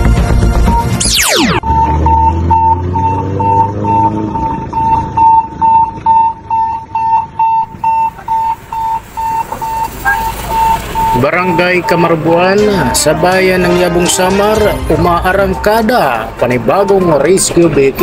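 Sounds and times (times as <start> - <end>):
rapid high beeps: 0.6 - 17.6.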